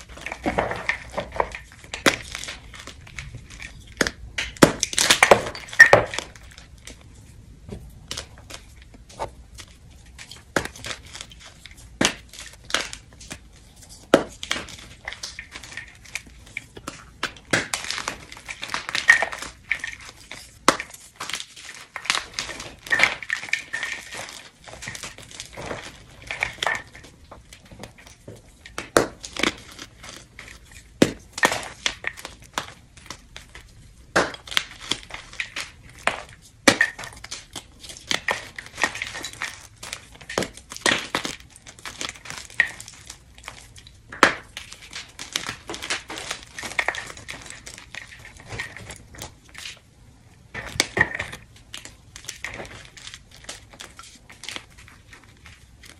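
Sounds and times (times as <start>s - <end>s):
chalk crushed by hand: 0.0s - 55.9s.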